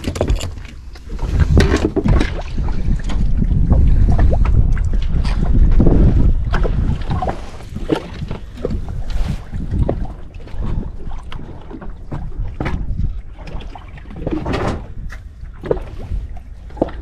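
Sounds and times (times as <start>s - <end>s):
small waves lapping against boat hull: 0.0s - 17.0s
wind rumble on microphone: 0.0s - 17.0s.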